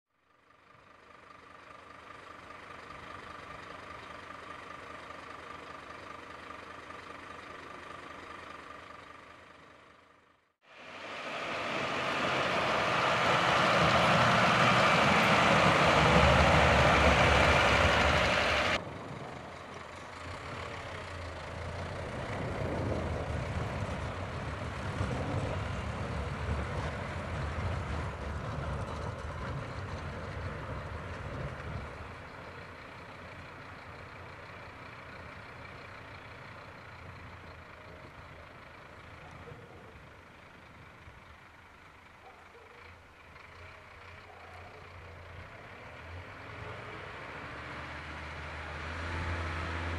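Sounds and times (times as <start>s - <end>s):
diesel truck engine: 0.1s - 49.9s
snow plough rushing noise: 0.6s - 49.9s.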